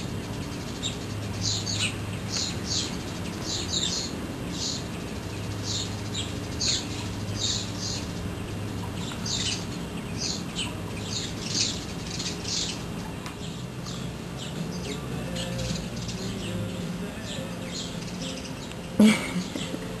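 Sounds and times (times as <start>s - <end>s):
bird chirping: 0.0s - 20.0s
low steady hum: 0.0s - 20.0s.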